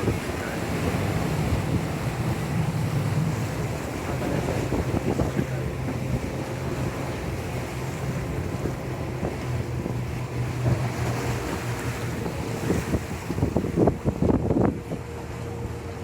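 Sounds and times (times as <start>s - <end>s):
boat motor humming: 0.0s - 16.0s
sea waves: 0.0s - 16.0s
wind buffeting microphone: 0.0s - 16.0s.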